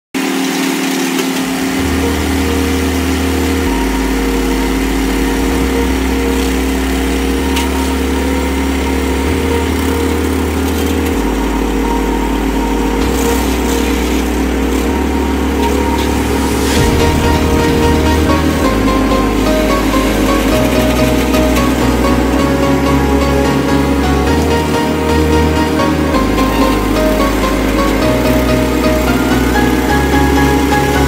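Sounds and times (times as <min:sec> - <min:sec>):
trencher engine running: 0:00.2 - 0:31.0
electronic music: 0:01.3 - 0:31.0.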